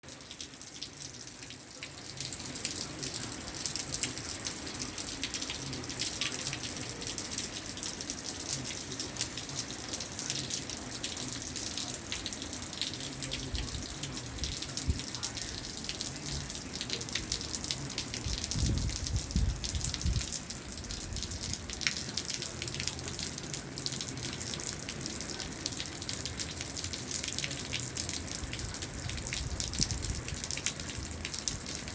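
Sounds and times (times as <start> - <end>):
rain falling: 0.0 - 31.9.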